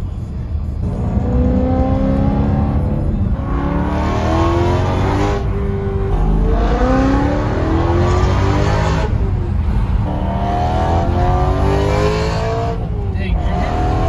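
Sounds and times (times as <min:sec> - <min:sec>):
car engine accelerating hard: 0:00.6 - 0:14.0.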